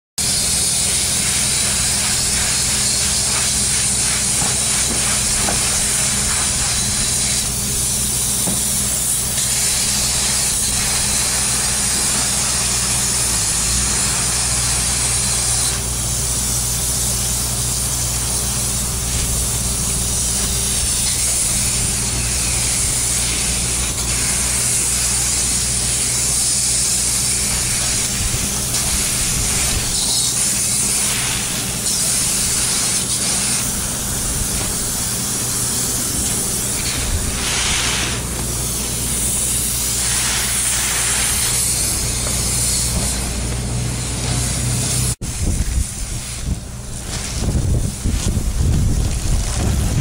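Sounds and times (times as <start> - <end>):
low machinery hum: 0.2 - 50.0
spray foam gun hissing: 0.2 - 50.0.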